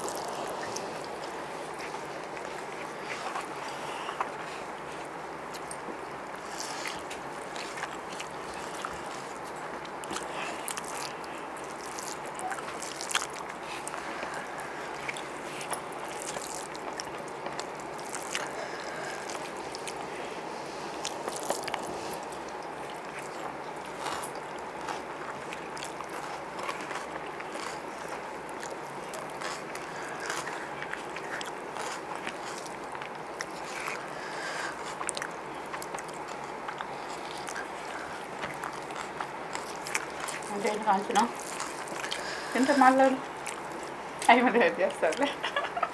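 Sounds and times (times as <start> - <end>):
chewing: 0.0 - 44.3
hands mixing rice: 0.0 - 45.9.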